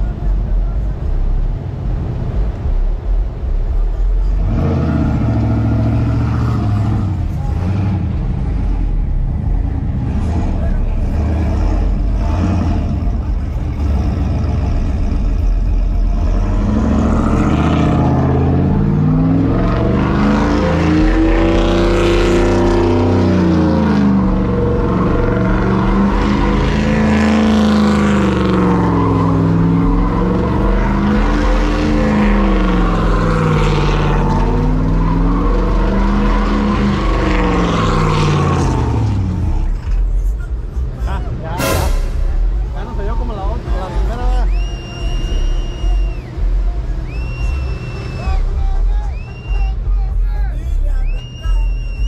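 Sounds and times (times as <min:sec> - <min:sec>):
truck engine revving hard: 0:00.0 - 0:52.0.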